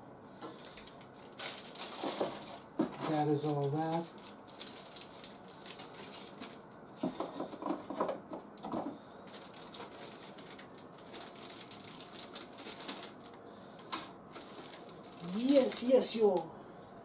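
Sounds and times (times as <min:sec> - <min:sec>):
plastic packaging crackling: 0:00.5 - 0:16.5.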